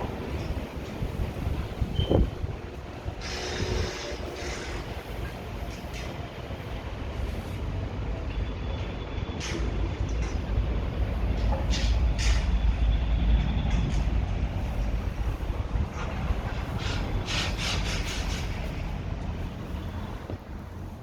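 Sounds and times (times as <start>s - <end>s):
rumble of vehicle traffic: 0.0s - 21.0s.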